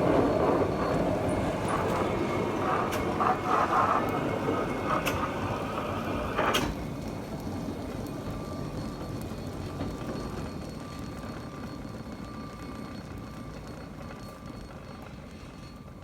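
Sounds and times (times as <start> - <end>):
cable car rumbling along rails: 0.0 - 16.0.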